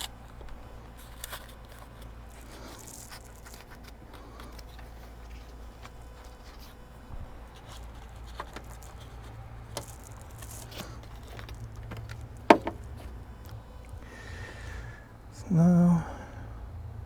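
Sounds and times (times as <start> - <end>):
light clicks and rustles: 0.0 - 14.0.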